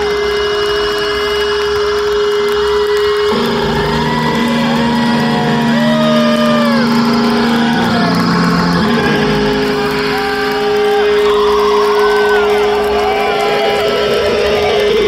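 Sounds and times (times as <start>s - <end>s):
electric guitar feedback drone: 0.0s - 15.0s.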